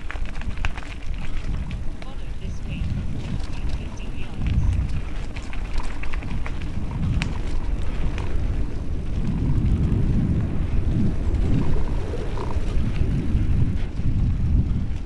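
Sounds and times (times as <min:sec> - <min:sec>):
bike tyres rolling on dirt: 0:00.0 - 0:15.0
wind buffeting microphone: 0:00.0 - 0:15.0.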